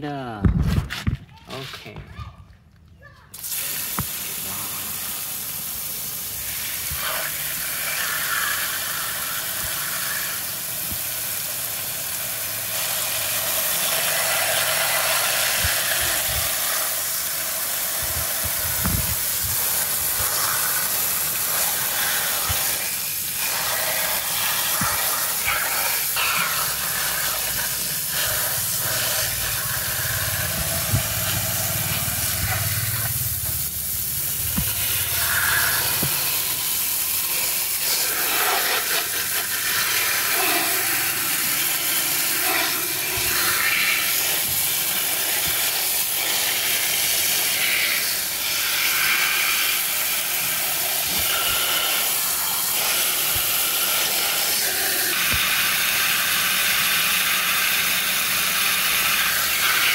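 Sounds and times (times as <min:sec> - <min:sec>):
hose spraying water: 0:03.3 - 0:59.9.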